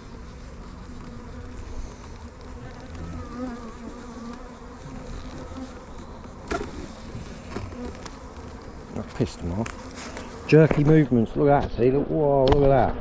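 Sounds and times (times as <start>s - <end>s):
bees buzzing: 0.0s - 11.2s.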